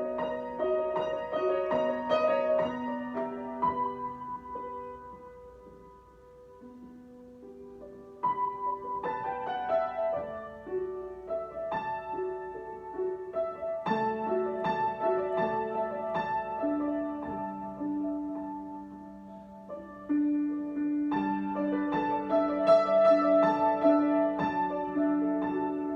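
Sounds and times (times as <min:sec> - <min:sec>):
solo piano playing: 0:00.0 - 0:25.9.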